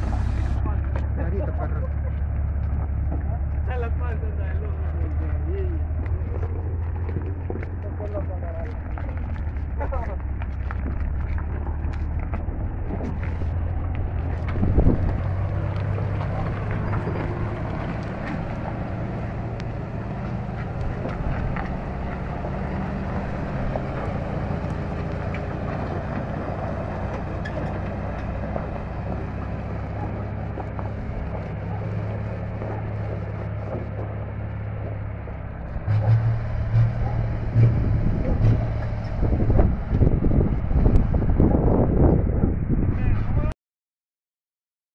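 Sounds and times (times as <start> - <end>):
diesel truck engine running: 0.0 - 43.5
wind buffeting microphone: 0.0 - 43.5.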